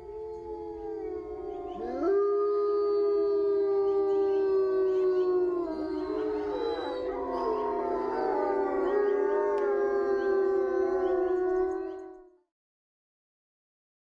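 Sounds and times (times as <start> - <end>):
wolves howling in chorus: 0.0 - 12.4.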